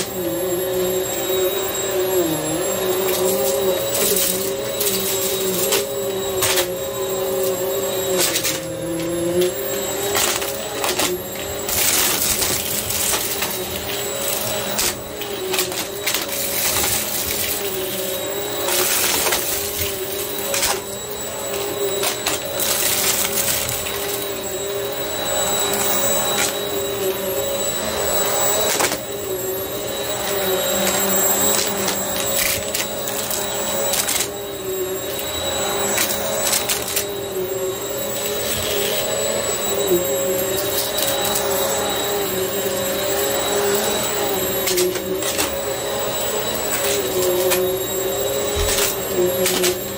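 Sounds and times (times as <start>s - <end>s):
vacuum cleaner running on carpet: 0.0s - 49.9s
debris rattling in vacuum: 2.8s - 34.4s, 38.1s - 49.9s.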